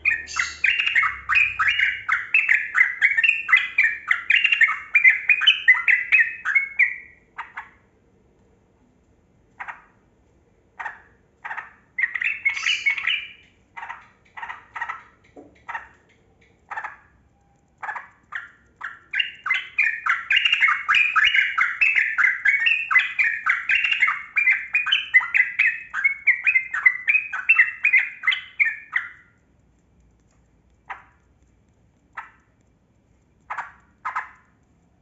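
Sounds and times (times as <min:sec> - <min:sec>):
bird rapid chattering: 0:00.0 - 0:07.8, 0:10.8 - 0:29.5, 0:30.2 - 0:35.0.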